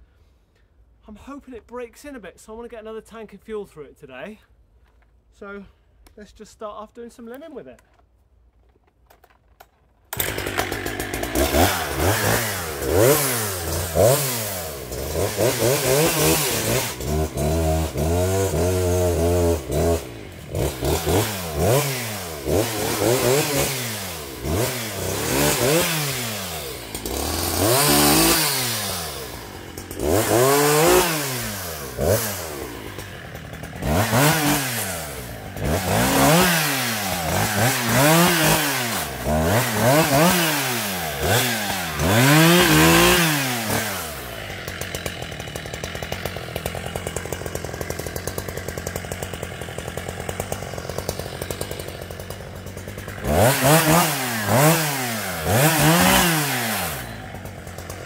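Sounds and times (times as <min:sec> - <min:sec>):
chainsaw revving: 0:10.1 - 0:58.0.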